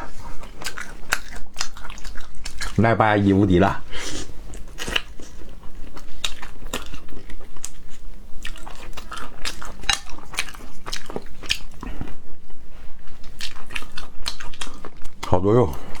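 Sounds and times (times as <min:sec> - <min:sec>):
chewing and crunching meat: 0:00.0 - 0:16.0.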